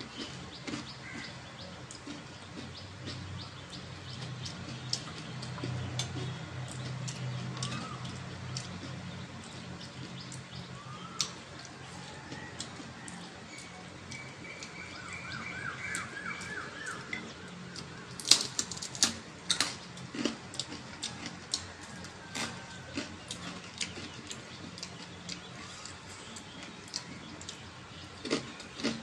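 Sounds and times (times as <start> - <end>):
crisp shells cracking and crunching: 0.1 - 29.0.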